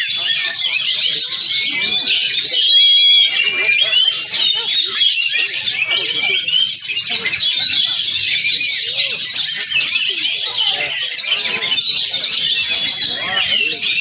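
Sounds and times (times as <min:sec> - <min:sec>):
bird singing whistles and chirps: 0:00.0 - 0:14.0.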